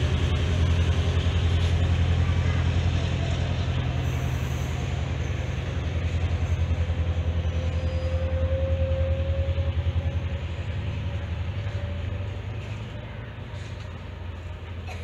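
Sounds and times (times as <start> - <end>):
diesel train engine droning: 0.0 - 15.0.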